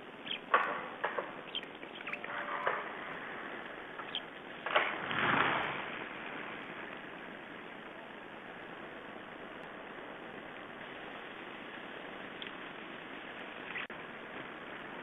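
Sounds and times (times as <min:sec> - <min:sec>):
steady hiss: 0:00.0 - 0:04.8, 0:05.6 - 0:15.0
whirr of many bird wings: 0:00.0 - 0:15.0.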